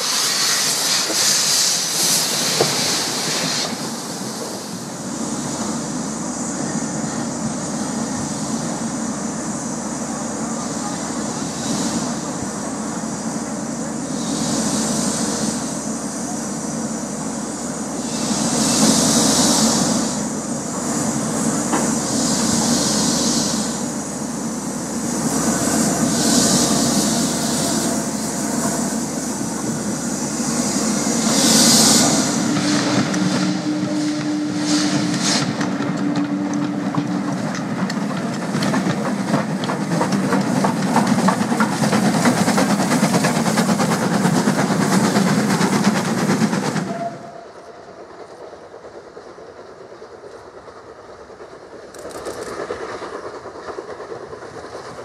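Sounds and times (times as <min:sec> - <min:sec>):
steam locomotive low tone: 0:00.0 - 0:55.0
steam locomotive steam hiss: 0:00.0 - 0:55.0.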